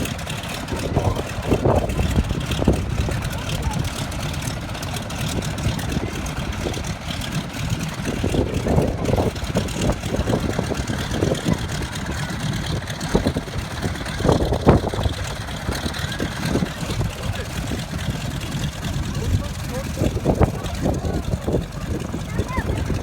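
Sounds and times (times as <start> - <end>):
engine idling: 0.0 - 23.0
faint voices: 0.0 - 23.0.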